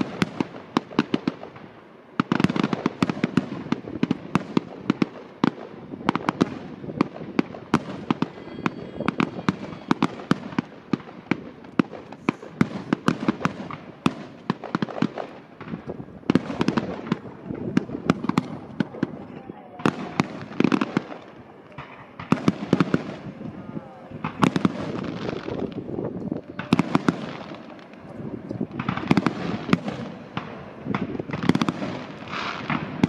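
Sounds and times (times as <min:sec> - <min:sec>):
fireworks bangs and crackles: 0:00.0 - 0:33.0
rumble of echoing blasts: 0:00.0 - 0:33.0.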